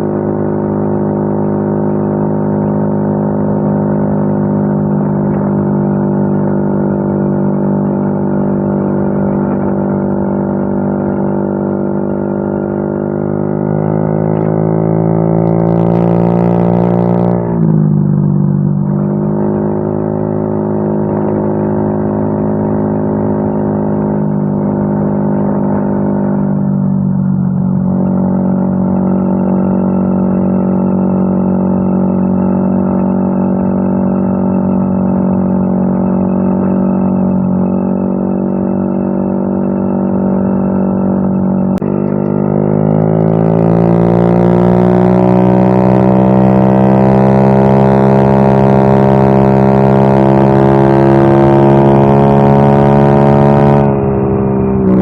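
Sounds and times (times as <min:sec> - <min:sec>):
scooter engine idling and revving: 0:00.0 - 0:55.0.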